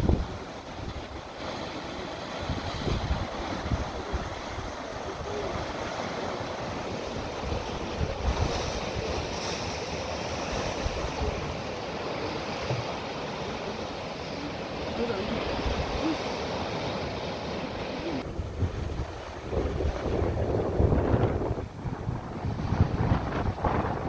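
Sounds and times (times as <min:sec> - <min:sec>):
sea surf breaking: 0:00.0 - 0:24.0
wind on microphone: 0:00.0 - 0:24.0.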